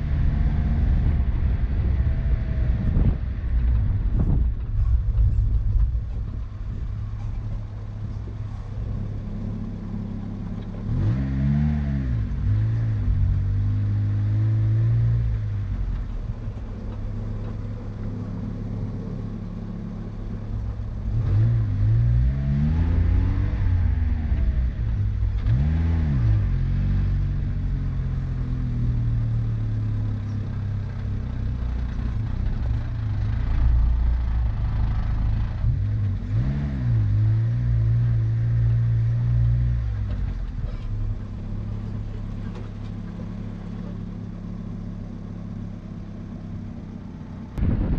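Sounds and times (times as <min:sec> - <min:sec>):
car engine revving: 0:00.0 - 0:30.4, 0:31.0 - 0:47.9.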